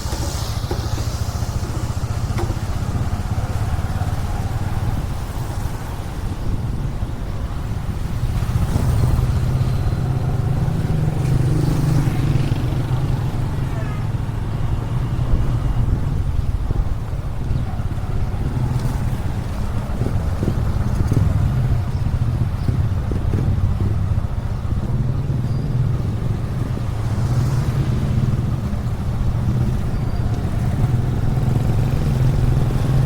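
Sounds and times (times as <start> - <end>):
motorcycle engine running: 0.0 - 33.0
road noise: 0.0 - 33.0
wind noise: 0.0 - 33.0.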